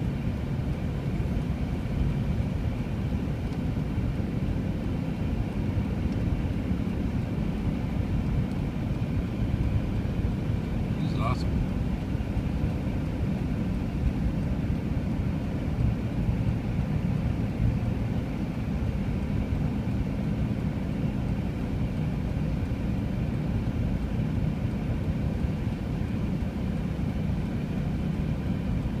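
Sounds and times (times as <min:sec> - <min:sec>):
vehicle engine and tyre rumble: 0:00.0 - 0:29.0.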